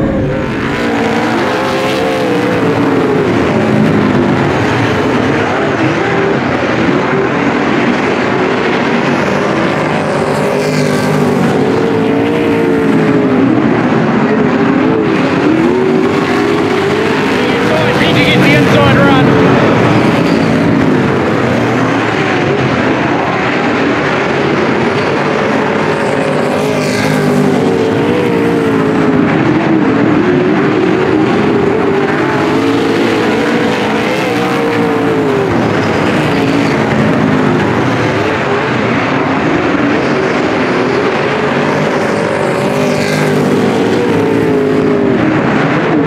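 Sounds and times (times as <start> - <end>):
race car engines roaring: 0.0 - 46.0.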